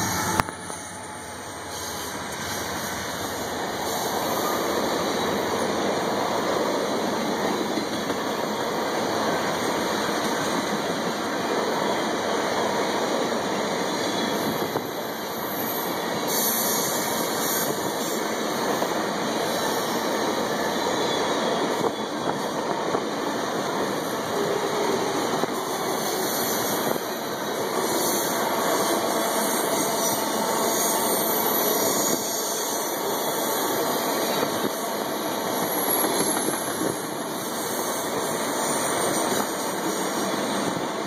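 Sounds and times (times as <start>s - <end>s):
steel wheels running on rails: 0.0s - 41.0s.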